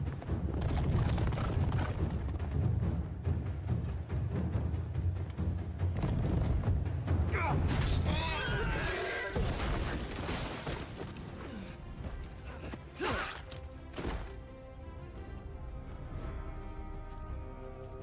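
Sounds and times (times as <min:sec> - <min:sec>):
dramatic orchestral score: 0:00.0 - 0:18.0.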